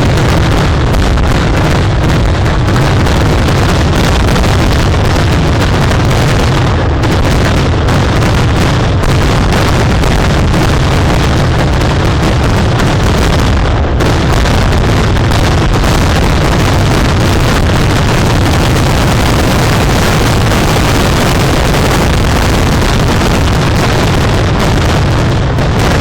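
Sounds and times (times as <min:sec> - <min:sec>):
firework explosions barrage: 0:00.0 - 0:26.0.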